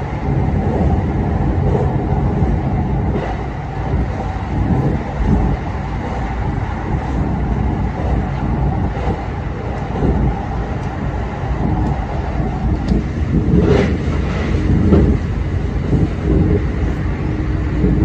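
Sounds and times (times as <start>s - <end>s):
train rumbling through tunnel: 0.0s - 18.0s.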